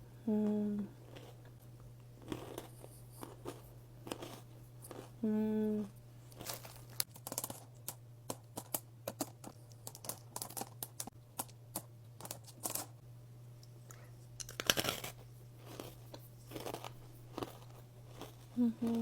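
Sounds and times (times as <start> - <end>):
candy crunching while chewed: 1.0 - 1.4, 2.2 - 5.2, 6.3 - 12.9, 13.9 - 19.0.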